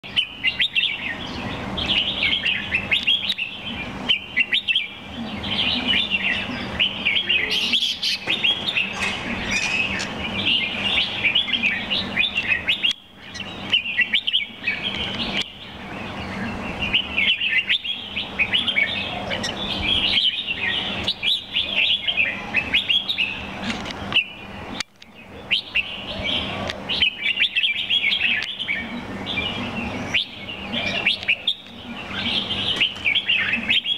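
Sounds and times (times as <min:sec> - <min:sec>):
bird singing bright chirping phrases: 0:00.0 - 0:33.9.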